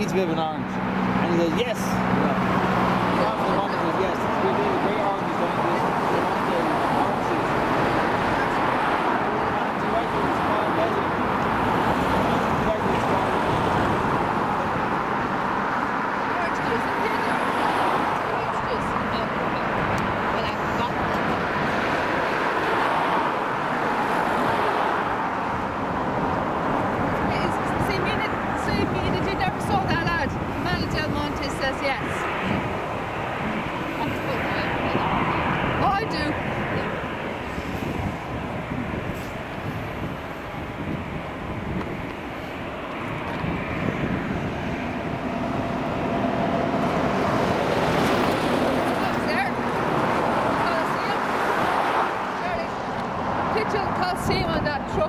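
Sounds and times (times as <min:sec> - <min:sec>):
steady rushing engine noise: 0:00.0 - 0:55.0.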